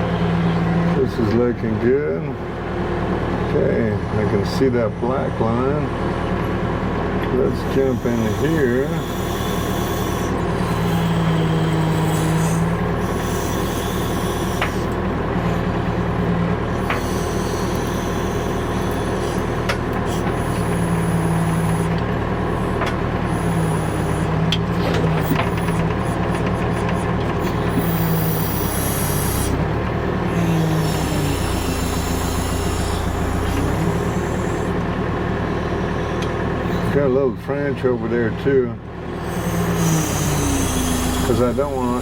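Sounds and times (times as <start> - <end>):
backhoe diesel engine: 0.0 - 42.0.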